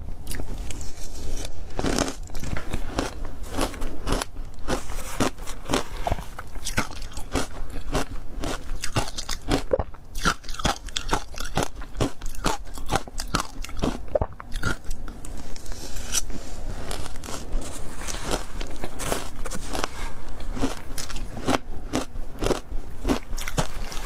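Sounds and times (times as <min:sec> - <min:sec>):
ice crunching being bitten: 0:01.3 - 0:15.0, 0:16.9 - 0:24.0.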